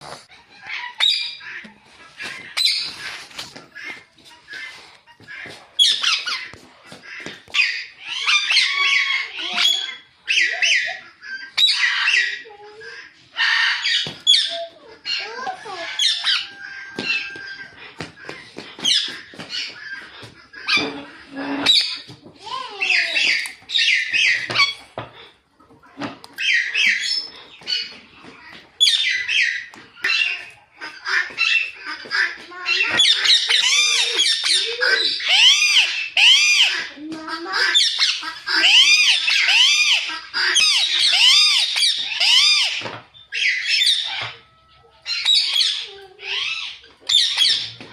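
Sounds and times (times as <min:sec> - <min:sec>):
parakeets chirping: 0:00.4 - 0:03.2, 0:04.6 - 0:25.4, 0:26.3 - 0:44.4, 0:45.0 - 0:47.8.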